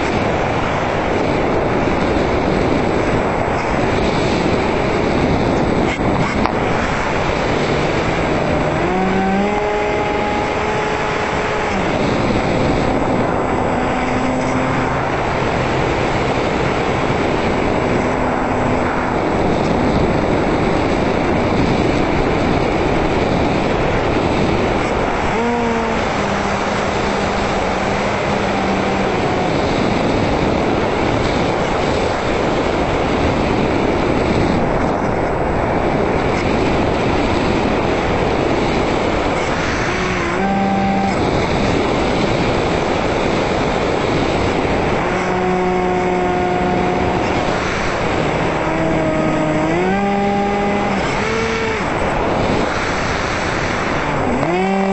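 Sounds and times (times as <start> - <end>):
electric motor propeller whine: 0.0 - 54.9
wind rush over camera: 0.0 - 54.9.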